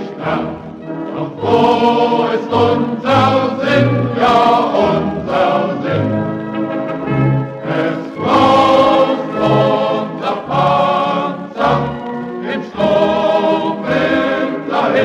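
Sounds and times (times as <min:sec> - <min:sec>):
choir singing marching song: 0:00.0 - 0:15.0.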